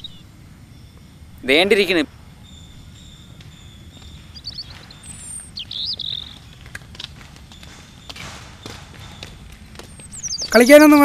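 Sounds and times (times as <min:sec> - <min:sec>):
bird twittering call: 0:00.0 - 0:06.7, 0:07.4 - 0:10.8
birds chirping: 0:00.0 - 0:11.0
low background rumble: 0:00.0 - 0:11.0.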